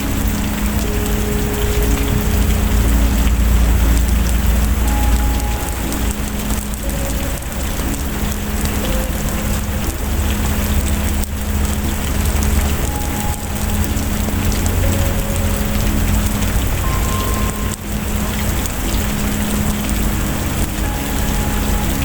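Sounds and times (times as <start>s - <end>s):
deep low rumble: 0.0s - 22.0s
heavy rain falling: 0.0s - 22.0s.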